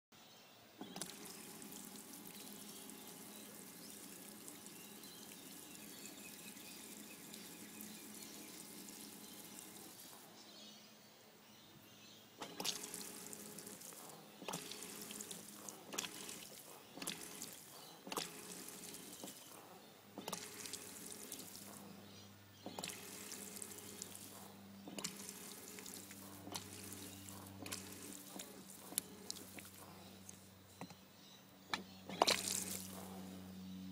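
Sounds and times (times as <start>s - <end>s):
water running from pump outlet: 0.8s - 10.4s, 12.4s - 30.6s, 31.7s - 33.4s.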